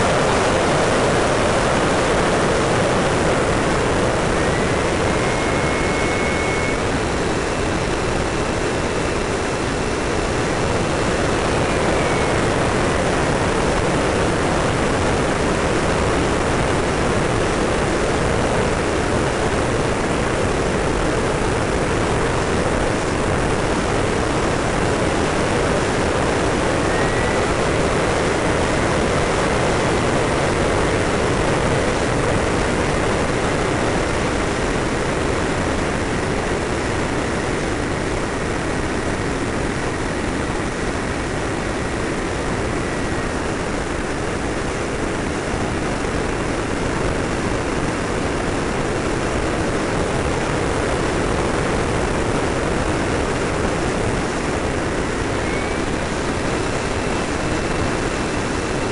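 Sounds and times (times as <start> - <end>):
faint high whine: 0.0 - 58.9
model jet airflow and engine: 0.0 - 58.9.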